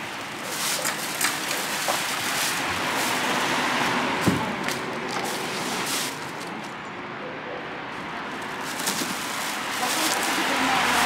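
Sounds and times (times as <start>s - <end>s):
plastic wrap rustling and crinkling: 0.0s - 6.6s, 8.2s - 11.0s.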